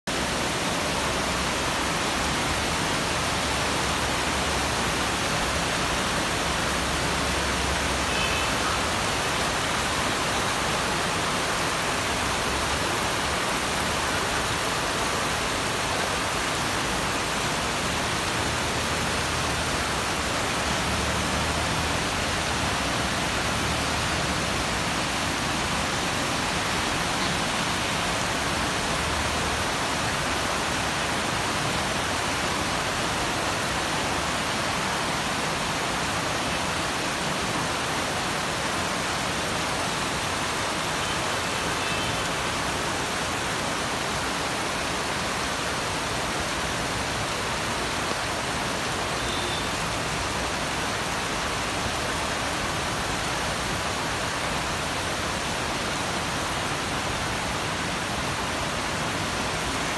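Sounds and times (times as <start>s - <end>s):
heavy rain pouring: 0.1s - 59.9s.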